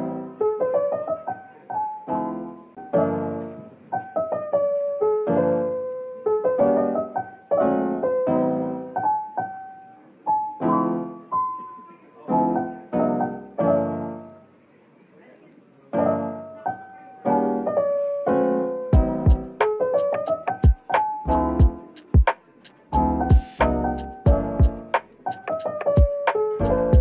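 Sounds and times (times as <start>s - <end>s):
piano chords and melody: 0.0s - 14.6s, 15.9s - 27.0s.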